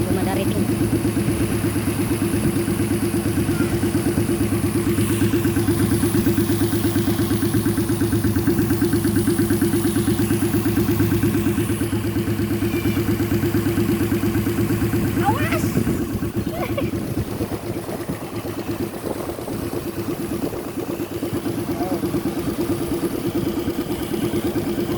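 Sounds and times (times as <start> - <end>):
engine idling with even pulse: 0.0 - 24.9.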